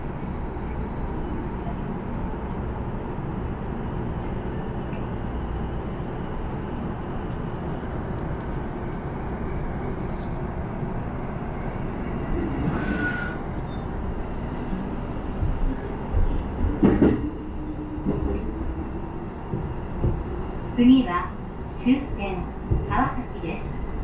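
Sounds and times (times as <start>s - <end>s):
electric train interior rumble: 0.0s - 24.0s.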